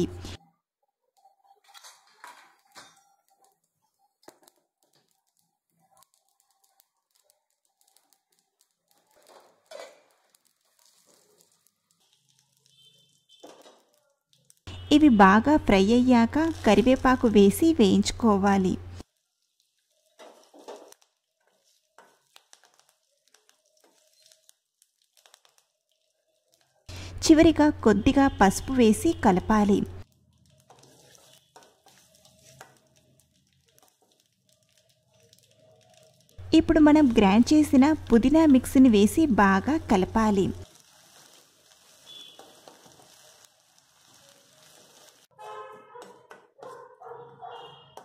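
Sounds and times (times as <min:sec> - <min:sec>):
spices crackling in hot oil: 0:01.2 - 0:45.3.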